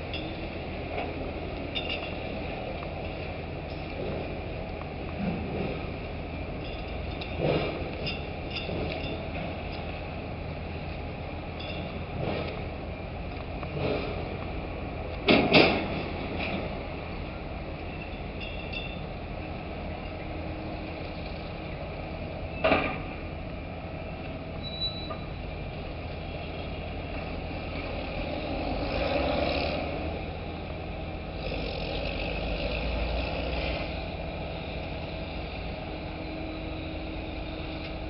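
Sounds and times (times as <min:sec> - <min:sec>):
heavy machinery rumbling: 0:00.0 - 0:38.0.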